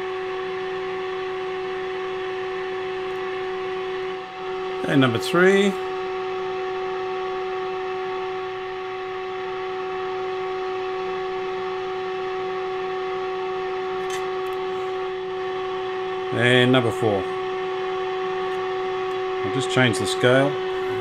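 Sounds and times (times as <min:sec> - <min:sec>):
steady test tone from radio: 0:00.0 - 0:21.0.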